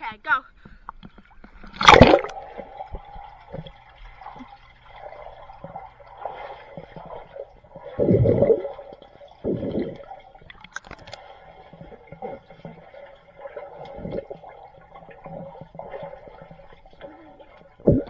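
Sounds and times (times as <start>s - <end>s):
pool water sloshing and gurgling: 1.0s - 18.0s
water splashes: 1.1s - 18.0s.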